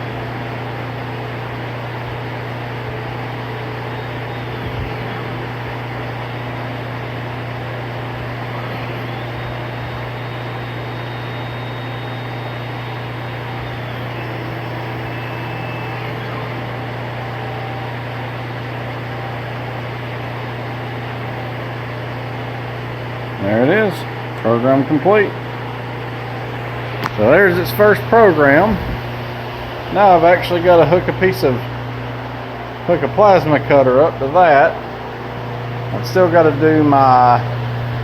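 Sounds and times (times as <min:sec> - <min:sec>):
steady machine hum and hiss: 0:00.0 - 0:38.0
stepper motors whining: 0:00.0 - 0:38.0.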